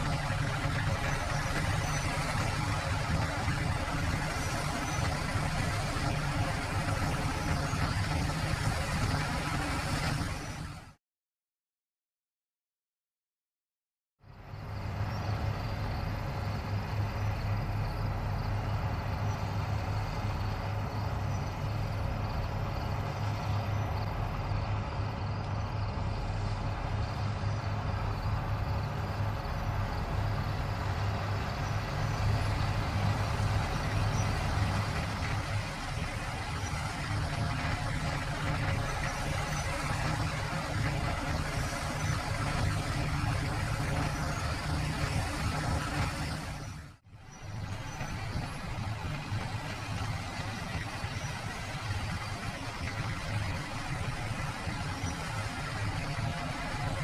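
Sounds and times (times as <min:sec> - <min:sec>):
combine harvester running: 0:00.0 - 0:11.0, 0:14.3 - 0:57.0.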